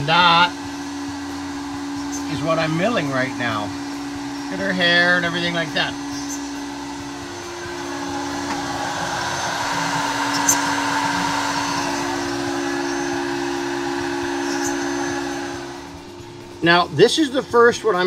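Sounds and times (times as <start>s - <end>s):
milling machine hum and whir: 0.0s - 18.0s.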